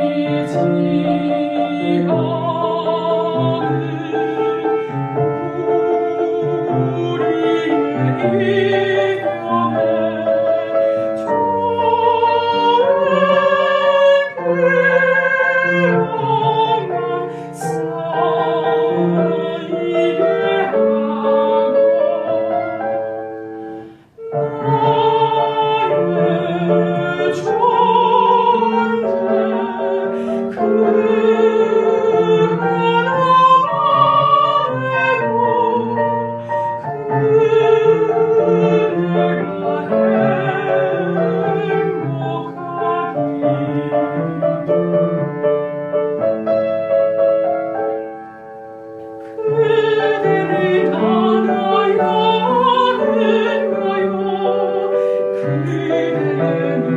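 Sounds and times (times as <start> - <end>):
piano accompaniment: 0.0 - 56.9
soprano singing: 0.0 - 56.9.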